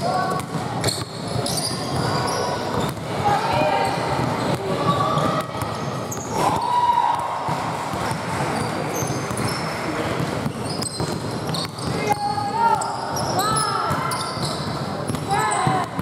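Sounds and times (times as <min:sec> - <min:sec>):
sneakers squeaking: 0:00.0 - 0:16.0.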